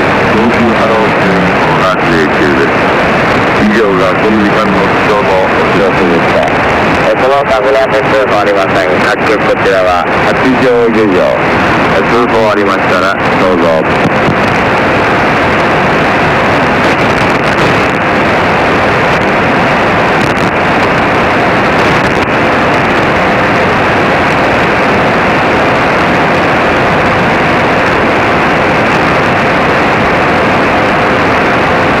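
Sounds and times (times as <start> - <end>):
radio receiver static: 0.0 - 32.0.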